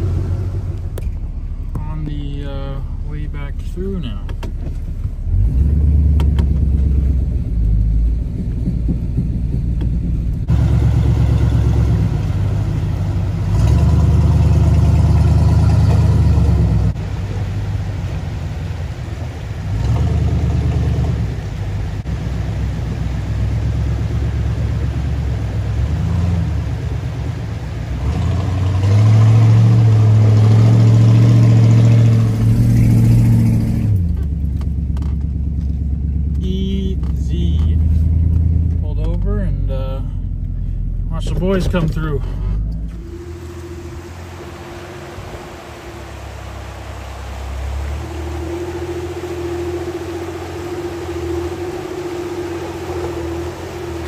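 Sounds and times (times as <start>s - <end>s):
truck engine revving under load: 0.0s - 1.8s, 4.4s - 35.3s, 41.8s - 54.0s.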